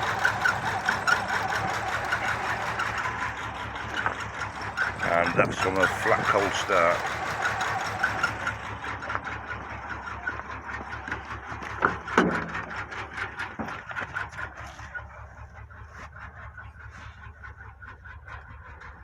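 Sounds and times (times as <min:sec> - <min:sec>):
car engine idling: 0:00.0 - 0:19.0
engine ticking and knocking: 0:00.0 - 0:19.0.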